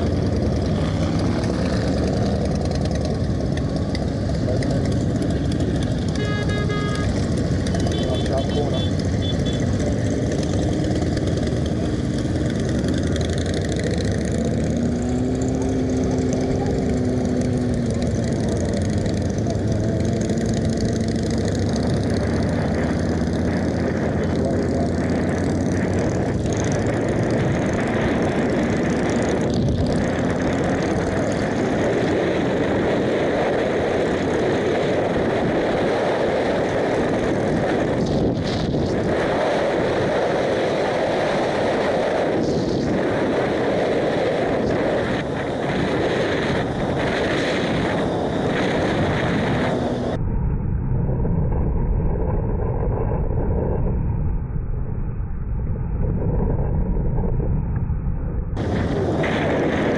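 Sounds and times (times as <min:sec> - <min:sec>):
motorcycle engine running: 0:00.0 - 0:50.2, 0:58.6 - 0:59.9
wind noise: 0:00.0 - 0:59.9.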